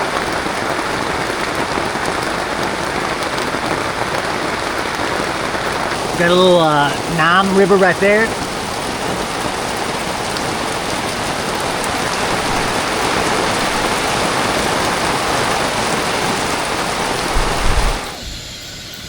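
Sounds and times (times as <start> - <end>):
heavy rain pouring: 0.0 - 18.7.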